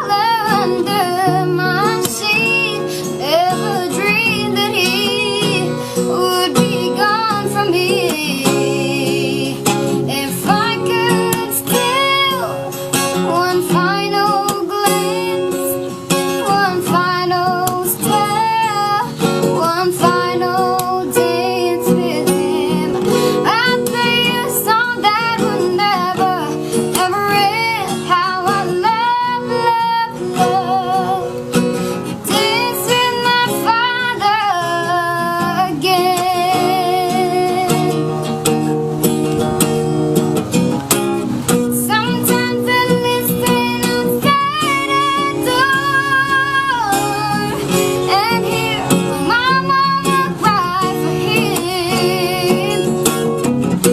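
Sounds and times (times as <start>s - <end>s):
child singing: 0.0s - 31.4s, 32.2s - 37.9s, 41.7s - 53.1s
acoustic guitar: 0.0s - 53.9s.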